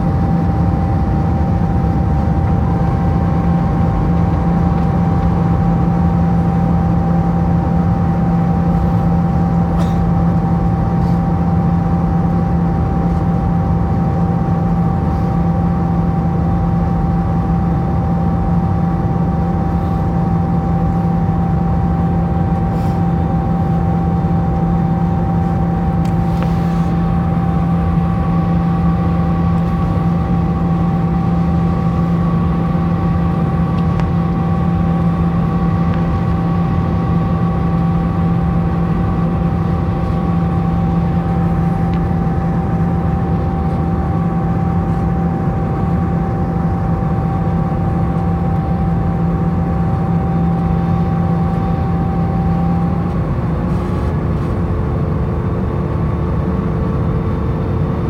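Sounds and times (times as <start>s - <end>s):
airplane cabin engine drone: 0.0s - 58.0s
steady whine: 0.0s - 58.0s.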